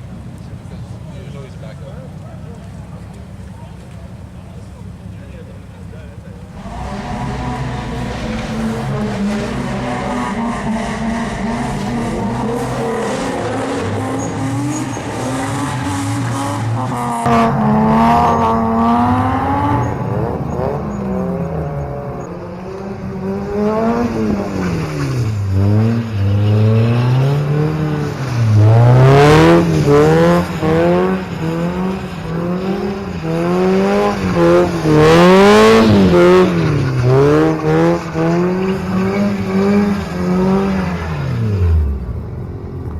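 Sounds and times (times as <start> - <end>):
car engine revving hard: 6.5 - 42.4.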